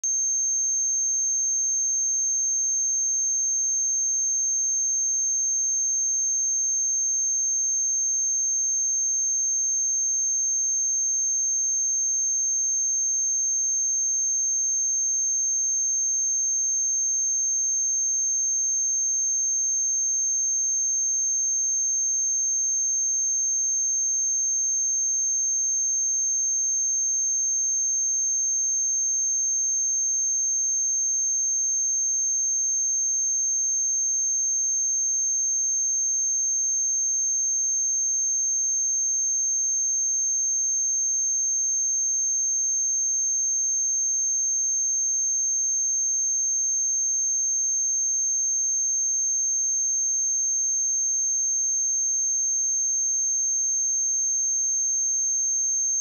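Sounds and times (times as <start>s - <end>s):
high-pitched sine test tone: 0.0s - 56.0s.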